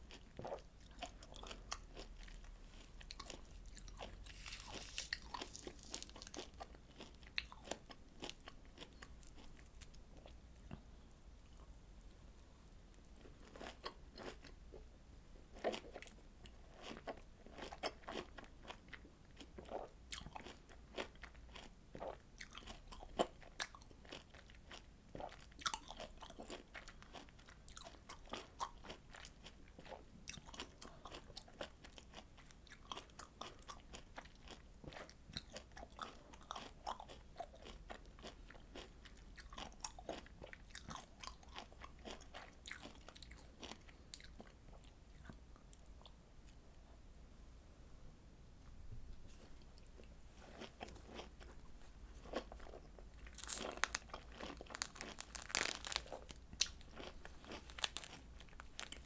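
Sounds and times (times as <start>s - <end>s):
person chewing citrus fruit: 0.0s - 11.7s, 15.5s - 46.6s, 49.3s - 59.0s.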